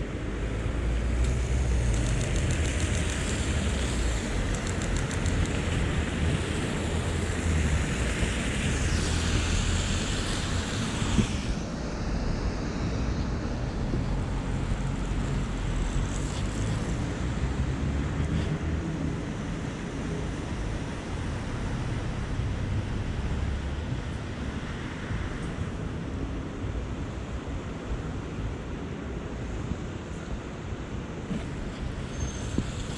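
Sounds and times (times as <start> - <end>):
traffic rumble: 0.0 - 32.9
tyres hissing on wet road: 0.2 - 28.6, 29.3 - 32.9.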